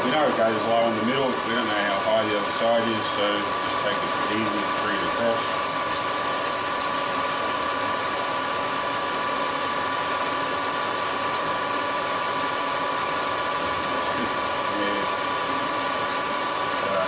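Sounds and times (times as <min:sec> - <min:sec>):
milling machine whining: 0:00.0 - 0:17.0.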